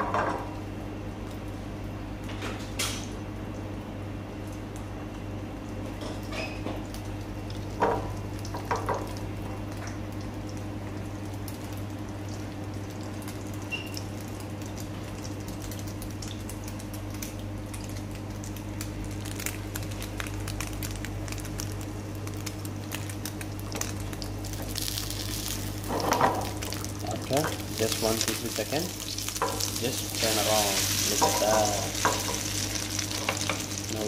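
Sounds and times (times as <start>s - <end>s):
steady low hum: 0.0s - 34.0s
chicken frying crackles: 0.6s - 34.0s.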